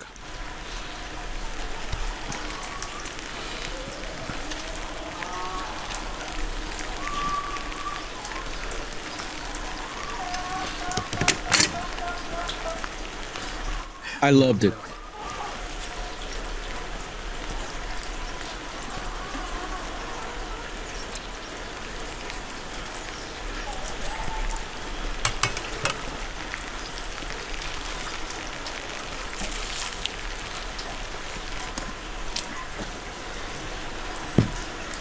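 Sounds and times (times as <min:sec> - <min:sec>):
light rain on wet paving: 0:00.0 - 0:35.0.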